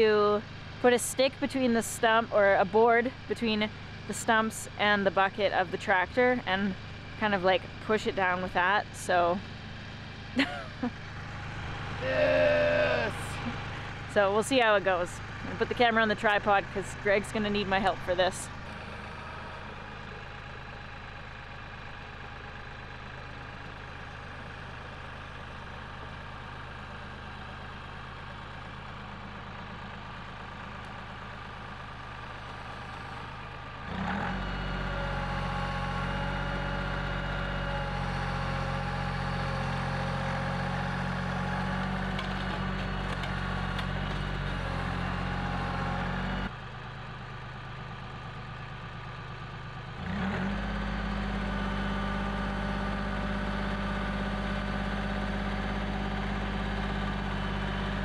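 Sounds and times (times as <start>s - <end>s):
tractor engine idling and revving: 0.0s - 58.0s.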